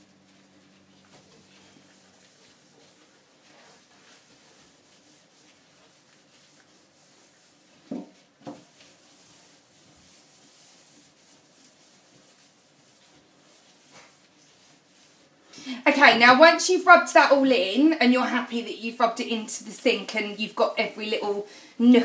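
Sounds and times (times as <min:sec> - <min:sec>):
sponge rubbing a steel sink: 0:00.0 - 0:21.5.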